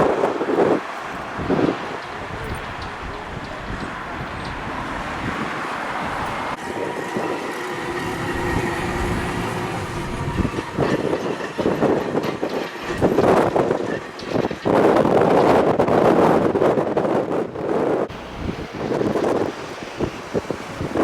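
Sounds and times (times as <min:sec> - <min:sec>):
electric tram running on rails: 0:00.0 - 0:21.0
steady tram whine: 0:00.0 - 0:21.0
wind buffeting microphone: 0:00.0 - 0:21.0.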